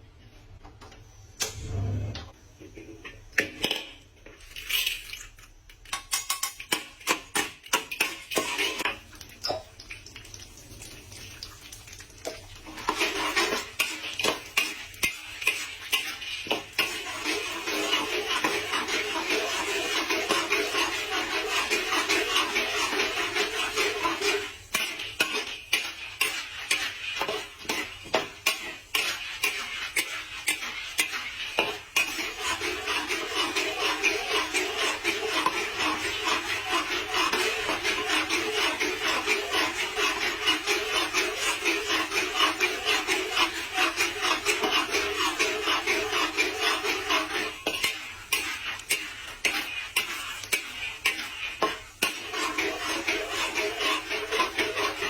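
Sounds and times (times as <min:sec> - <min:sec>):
popcorn popping in a pot: 0:05.7 - 0:55.0.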